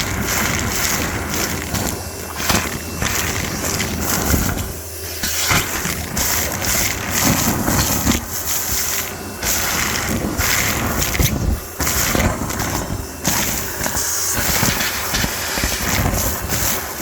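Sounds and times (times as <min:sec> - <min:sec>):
air rushing through hose: 0:00.0 - 0:17.0
vacuum motor humming: 0:00.0 - 0:17.0.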